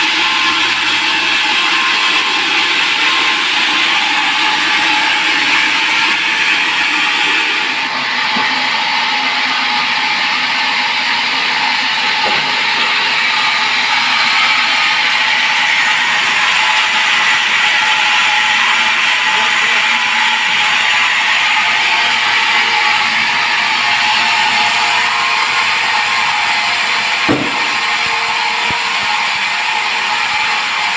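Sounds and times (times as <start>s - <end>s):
sawmill saw cutting log: 0.0s - 30.9s.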